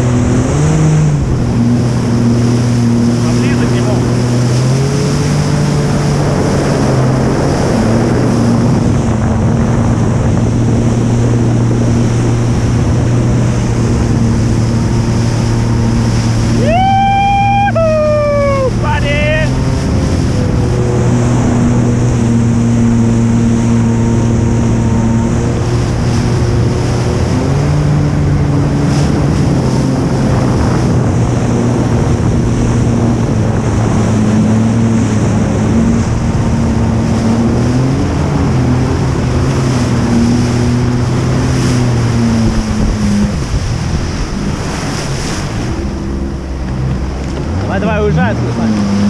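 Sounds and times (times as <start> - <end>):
jet ski engine running: 0.0 - 49.0
wind buffeting microphone: 0.0 - 49.0.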